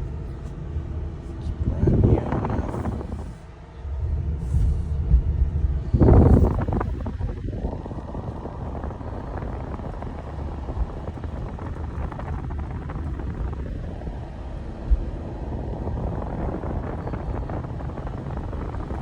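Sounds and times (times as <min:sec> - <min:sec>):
steady low rumbling: 0:00.0 - 0:19.0.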